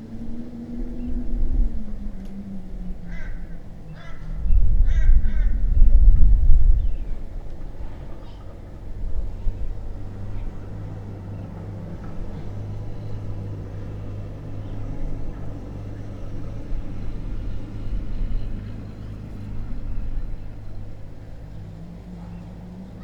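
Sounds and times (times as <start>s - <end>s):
low rumble with hum: 0.0s - 23.0s.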